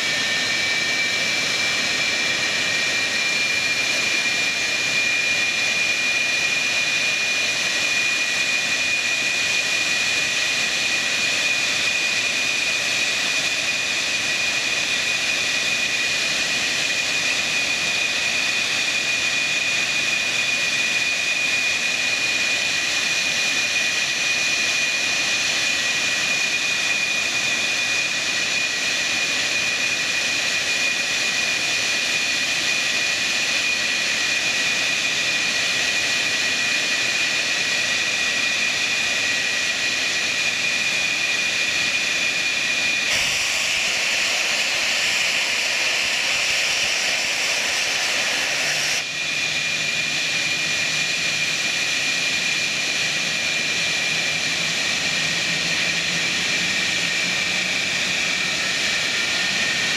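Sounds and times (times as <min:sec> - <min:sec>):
jet engines idling: 0:00.0 - 0:59.9.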